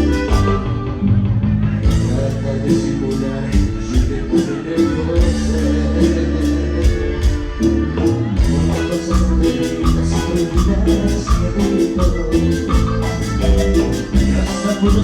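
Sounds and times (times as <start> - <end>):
live latin band playing: 0.0 - 15.0.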